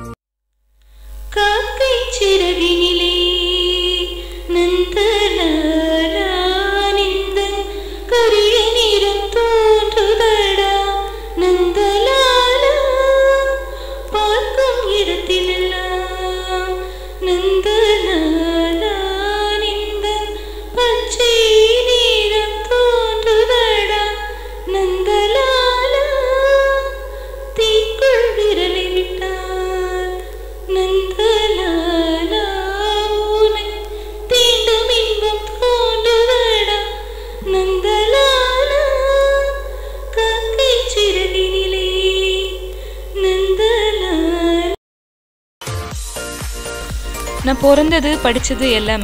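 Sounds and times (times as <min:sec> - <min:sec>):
woman singing unaccompanied: 0:01.3 - 0:44.8, 0:47.3 - 0:49.0.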